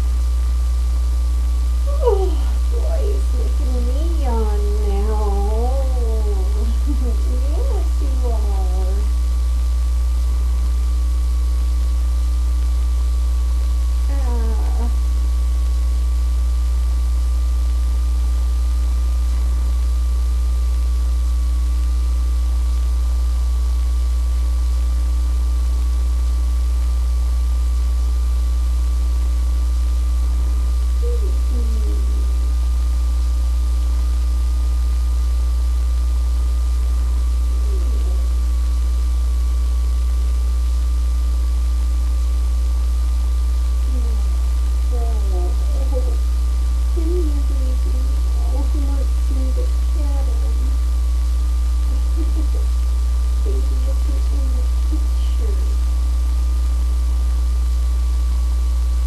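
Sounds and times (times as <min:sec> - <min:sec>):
electrical hum: 0:00.0 - 0:59.0
thin steady whine: 0:00.0 - 0:59.0.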